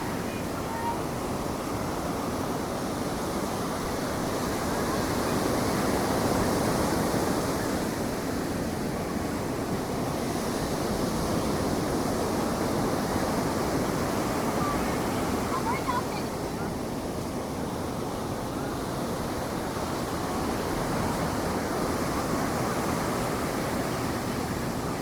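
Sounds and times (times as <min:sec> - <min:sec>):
ocean surf washing onto beach: 0:00.0 - 0:25.0.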